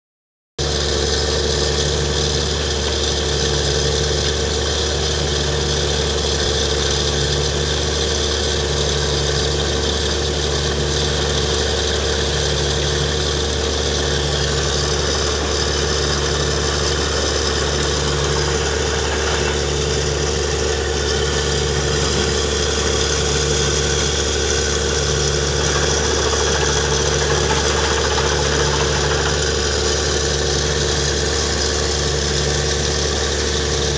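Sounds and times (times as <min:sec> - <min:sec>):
drilling rig engine droning: 0:01.1 - 0:33.9.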